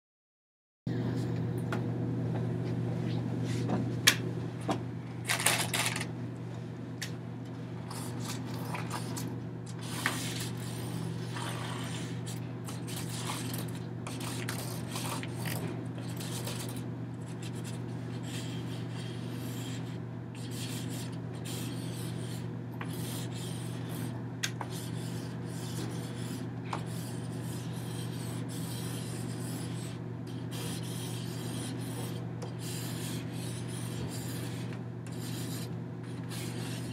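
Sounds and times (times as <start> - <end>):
low steady hum: 0.9 - 36.9.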